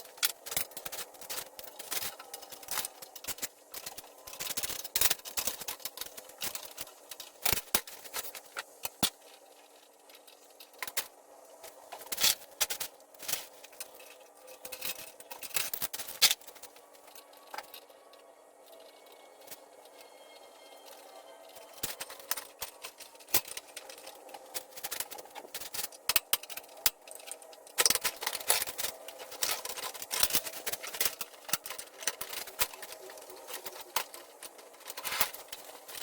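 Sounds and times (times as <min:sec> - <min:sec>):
hand tools and metal parts clinking: 0:00.0 - 0:36.0.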